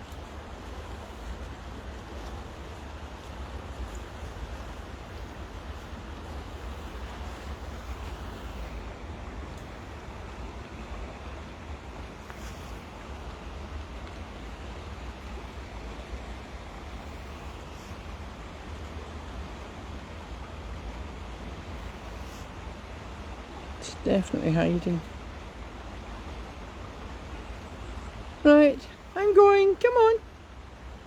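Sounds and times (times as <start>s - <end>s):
wind rumble on microphone: 0.0s - 29.2s
rain falling on water: 0.0s - 31.0s.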